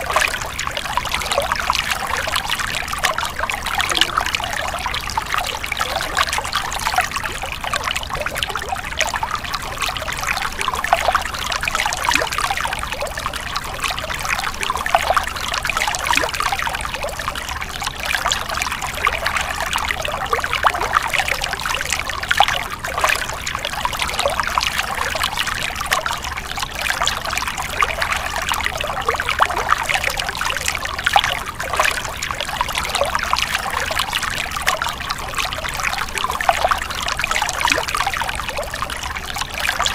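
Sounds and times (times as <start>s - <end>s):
stream water babbling over stones: 0.0s - 39.9s.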